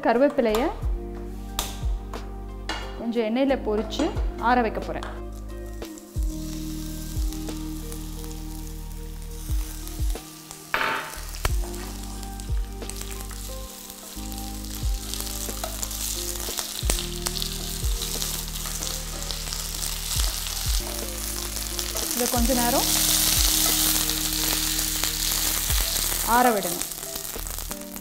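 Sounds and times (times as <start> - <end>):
leaves sizzling in hot oil: 4.7 - 28.0.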